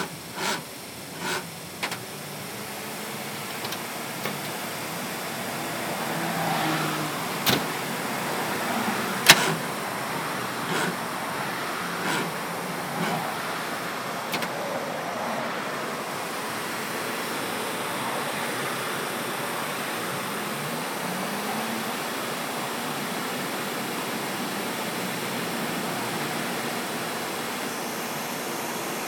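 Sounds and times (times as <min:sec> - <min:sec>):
road traffic rushing by: 0:00.0 - 0:29.0.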